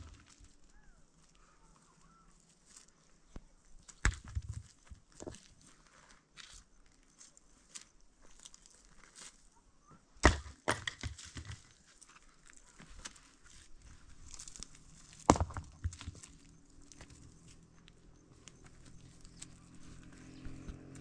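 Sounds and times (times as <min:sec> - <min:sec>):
footsteps on stony ground: 0:00.0 - 0:09.5, 0:10.2 - 0:21.0.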